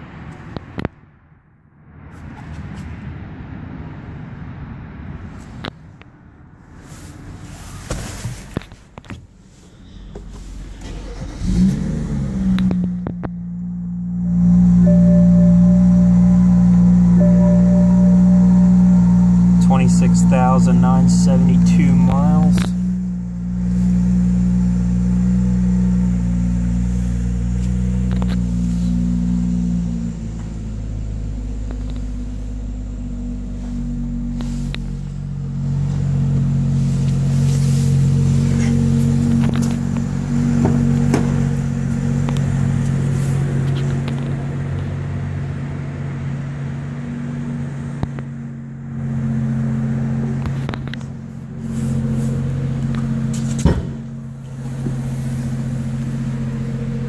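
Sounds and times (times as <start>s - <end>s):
car engine idling: 5.8s - 57.0s.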